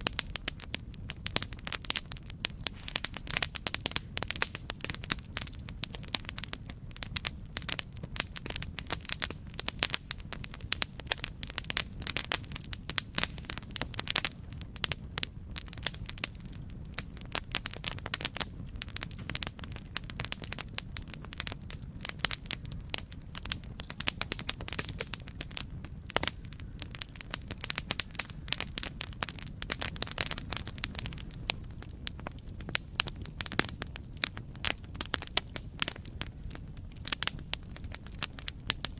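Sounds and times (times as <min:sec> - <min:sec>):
campfire wood crackling: 0:00.0 - 0:38.9
low rumble of flame: 0:00.0 - 0:38.9.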